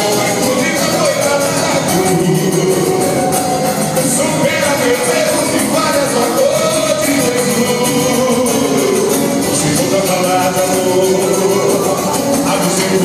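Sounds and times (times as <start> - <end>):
gospel singing: 0.0 - 13.0
instrumental accompaniment: 0.0 - 13.0.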